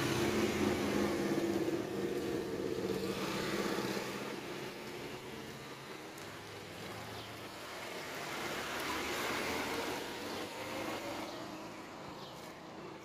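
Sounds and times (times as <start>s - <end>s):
car passing on wet road: 0.0s - 12.0s.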